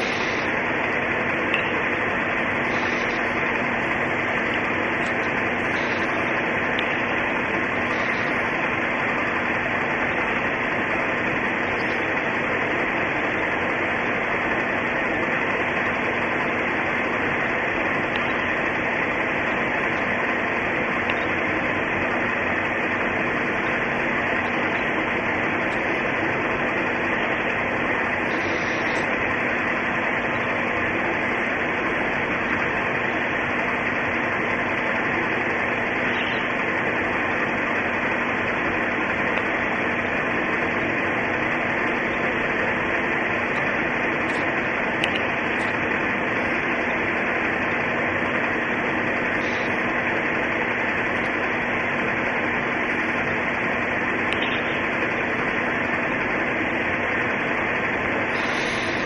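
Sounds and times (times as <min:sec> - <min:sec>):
faint low hum: 0:00.0 - 0:59.0
steady hiss: 0:00.0 - 0:59.0.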